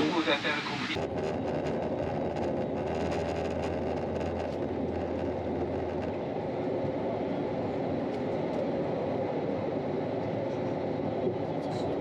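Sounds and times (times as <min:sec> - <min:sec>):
airliner cabin engine rumble: 0:00.0 - 0:12.0
low hum: 0:00.0 - 0:12.0.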